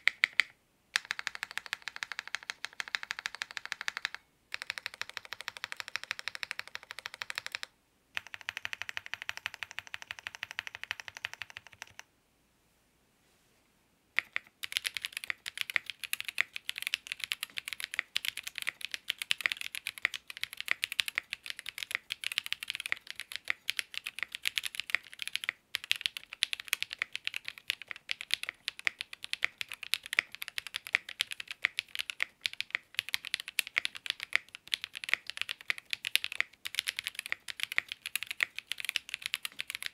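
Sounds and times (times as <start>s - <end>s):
fast mechanical keyboard typing: 0.0s - 12.0s, 14.2s - 39.9s.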